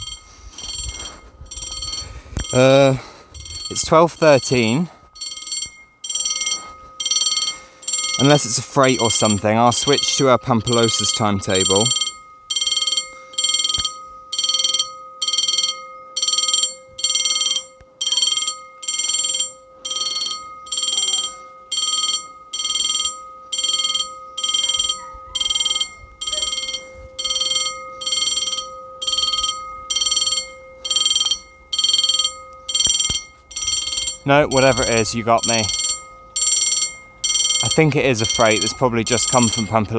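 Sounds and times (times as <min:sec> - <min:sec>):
level crossing bell ringing: 0:00.0 - 0:39.9.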